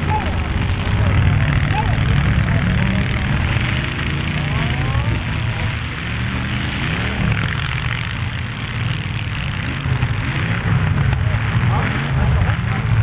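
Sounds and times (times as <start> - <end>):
car engines rumbling and revving: 0.0 - 13.0.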